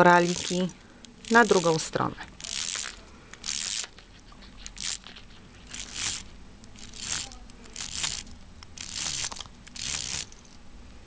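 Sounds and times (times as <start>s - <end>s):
bead chain rattling through blind: 0.0s - 10.6s.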